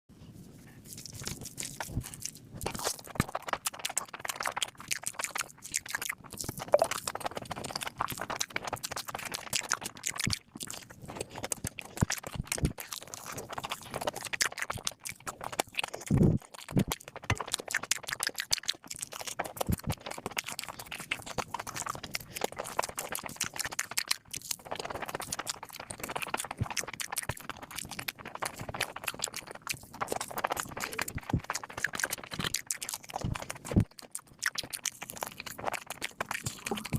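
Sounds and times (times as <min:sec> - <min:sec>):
person chewing and slurping: 0:00.6 - 0:36.9.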